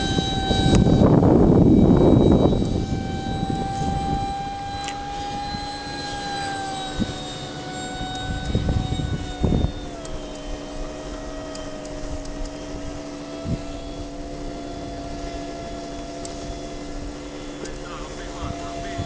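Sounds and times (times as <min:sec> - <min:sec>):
electric fan whine: 0:00.0 - 0:19.0.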